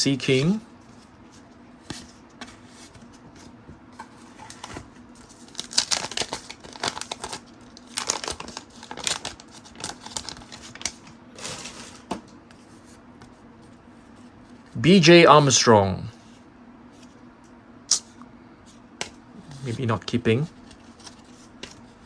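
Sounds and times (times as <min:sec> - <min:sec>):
trading cards rustling and scraping: 0:00.1 - 0:14.8, 0:18.7 - 0:22.0.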